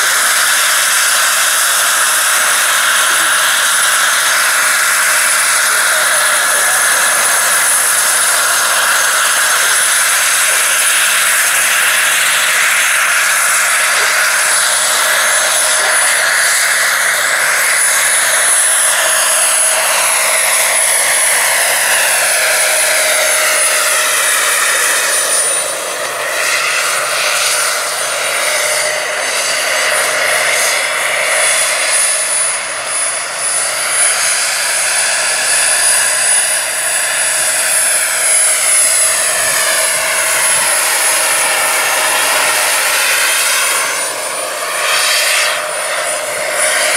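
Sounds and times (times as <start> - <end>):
model helicopter turbine whine: 0.0 - 46.9.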